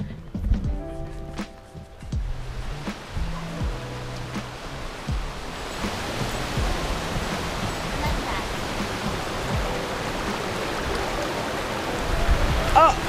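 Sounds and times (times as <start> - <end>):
low thumps: 0.0 - 11.2, 12.2 - 13.0
faint music: 0.0 - 13.0
rushing hiss of outdoor noise: 1.4 - 13.0.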